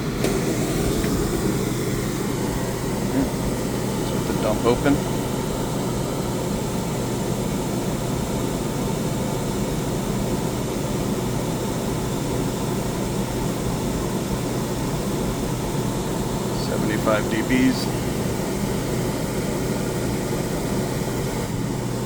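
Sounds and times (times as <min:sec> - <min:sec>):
air conditioner air rush: 0:00.0 - 0:22.0.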